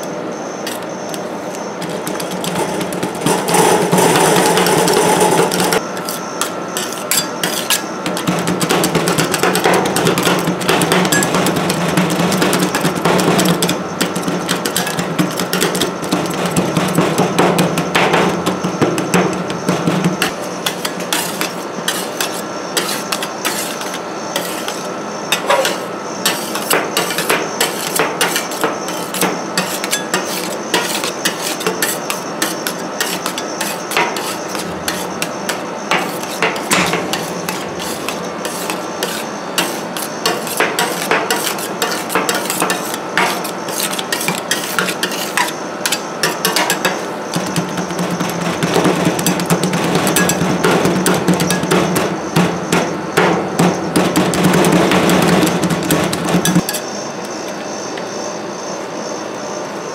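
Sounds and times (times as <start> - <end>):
metal spatulas clacking and scraping: 1.8 - 18.3, 20.0 - 52.0.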